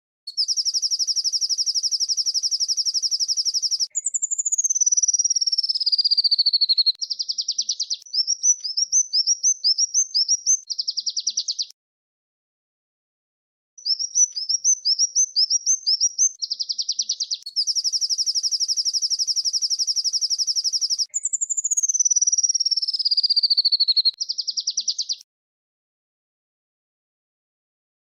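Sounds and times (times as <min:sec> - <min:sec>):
whistled bird notes: 0:00.2 - 0:11.7, 0:13.8 - 0:25.3
songbird trills: 0:00.3 - 0:11.7, 0:13.8 - 0:25.2.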